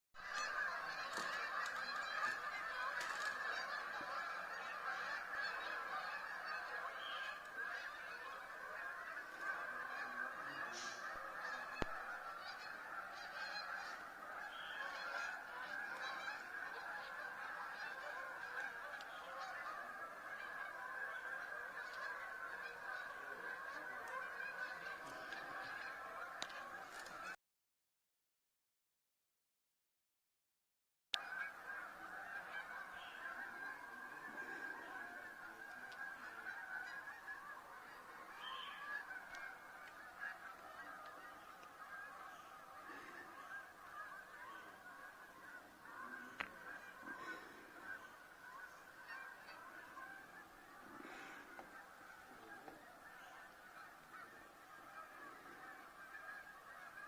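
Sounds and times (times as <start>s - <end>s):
flock of birds calling: 0.2s - 27.4s, 31.2s - 57.0s.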